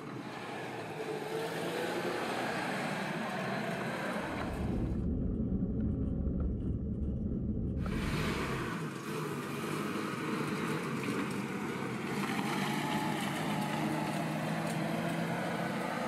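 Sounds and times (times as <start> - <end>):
car engine driving by: 0.1 - 16.0.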